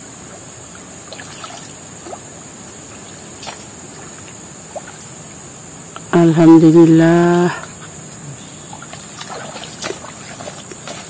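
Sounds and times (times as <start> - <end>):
high insect drone: 0.0 - 11.0
river water trickling: 0.0 - 11.0.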